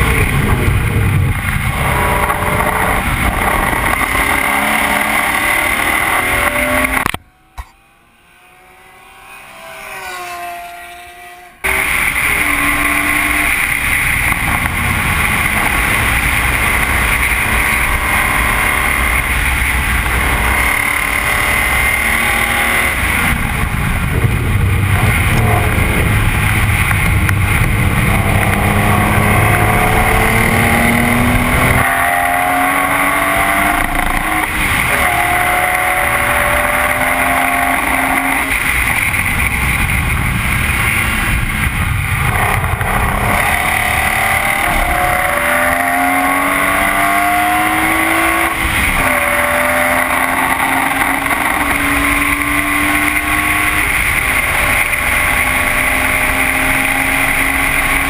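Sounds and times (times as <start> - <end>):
car engine revving through gears: 0.0 - 58.0
wind and road noise: 0.0 - 58.0.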